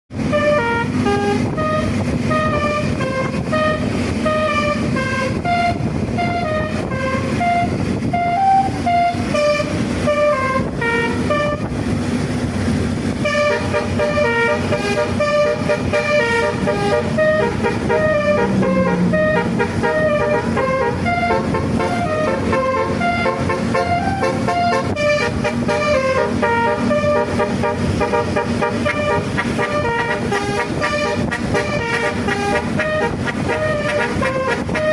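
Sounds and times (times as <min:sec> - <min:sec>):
bus engine rumble: 0:00.1 - 0:34.9
musical air horn tune: 0:00.2 - 0:11.8, 0:13.1 - 0:34.9.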